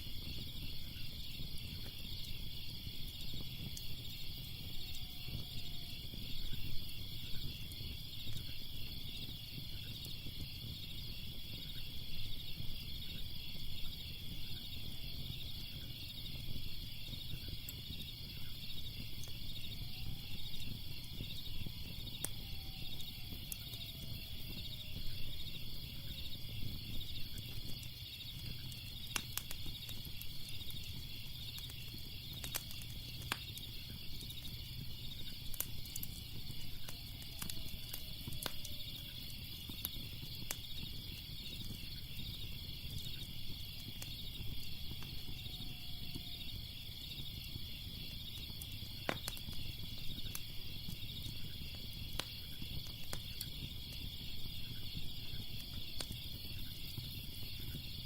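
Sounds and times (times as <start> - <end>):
crickets chirping: 0.0 - 58.0
fire crackling and popping: 0.0 - 58.0.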